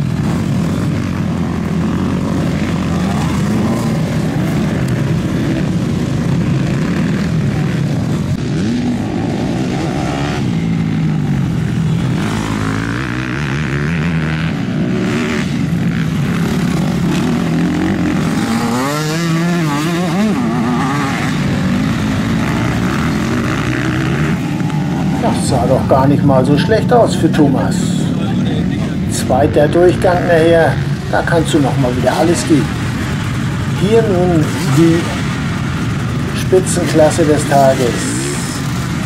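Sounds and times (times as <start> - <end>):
motocross motorcycles revving: 0.0 - 39.0.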